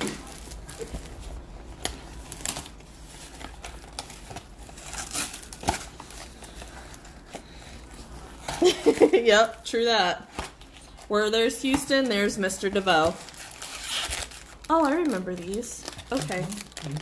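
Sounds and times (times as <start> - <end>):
wrapping crinkling and tearing: 0.0 - 17.0.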